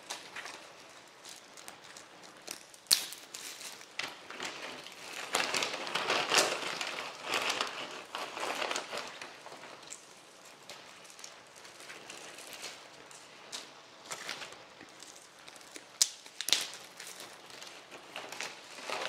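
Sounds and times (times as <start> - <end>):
granola rustling: 0.0 - 19.0
plastic bags crinkling: 0.0 - 19.0.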